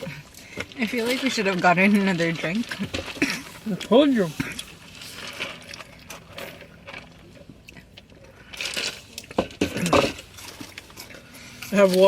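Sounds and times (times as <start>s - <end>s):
chewing: 0.0s - 12.0s
food packaging rustling: 0.1s - 12.0s.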